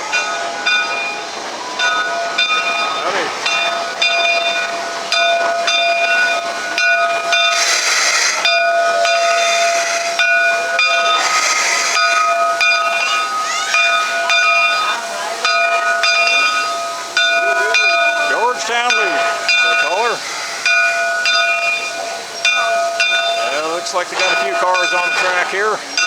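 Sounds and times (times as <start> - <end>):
steam hissing: 0.0 - 26.0
steam venting bursts: 0.0 - 26.0.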